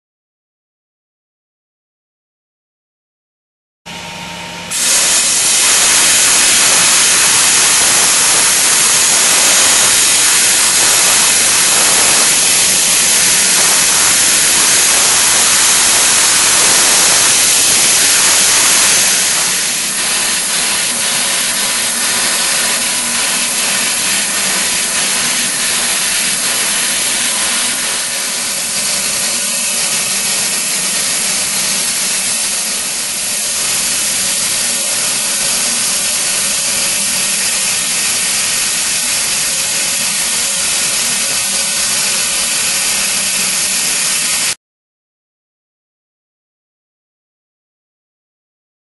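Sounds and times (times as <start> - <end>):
spray gun compressed-air hiss: 4.7 - 44.6.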